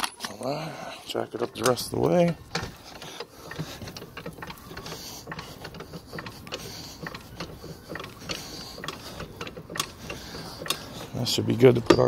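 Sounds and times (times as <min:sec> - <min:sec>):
car jack cranking clicks: 0:01.1 - 0:12.0.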